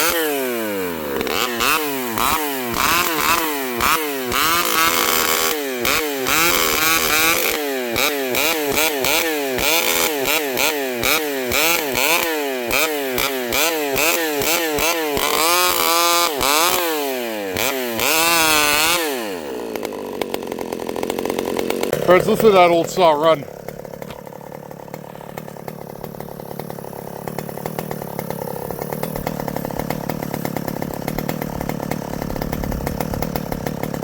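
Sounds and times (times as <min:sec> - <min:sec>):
two-stroke chainsaw revving: 0:00.0 - 0:34.0.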